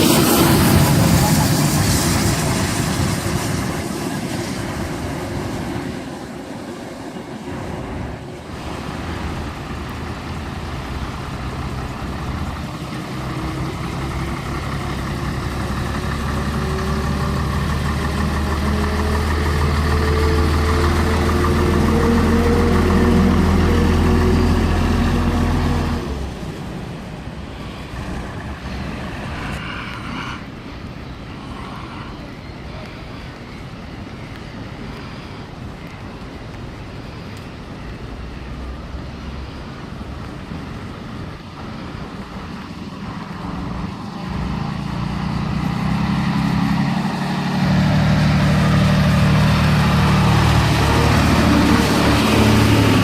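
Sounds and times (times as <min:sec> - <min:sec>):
background noise: 0:00.0 - 0:53.0
train pulling away: 0:00.0 - 0:53.0.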